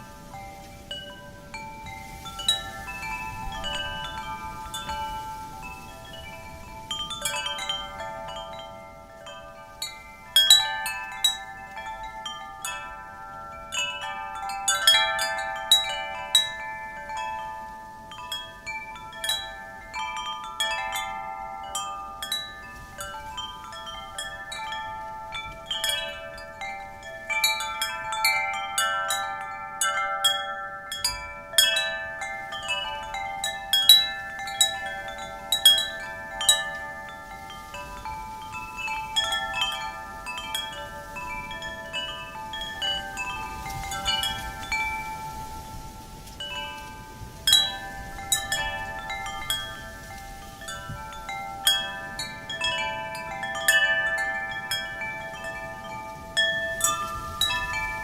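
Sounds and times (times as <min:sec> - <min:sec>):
faint rush of wind: 0:00.0 - 0:58.0
wind chimes ringing: 0:00.0 - 0:58.0.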